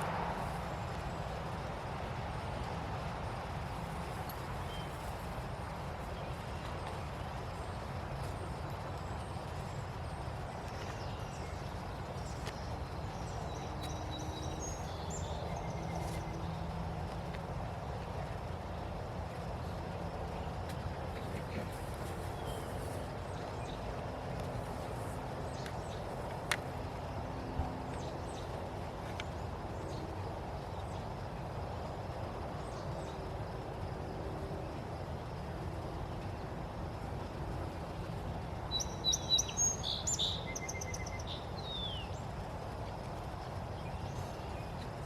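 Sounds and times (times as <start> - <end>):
outdoor background noise: 0.0 - 45.0.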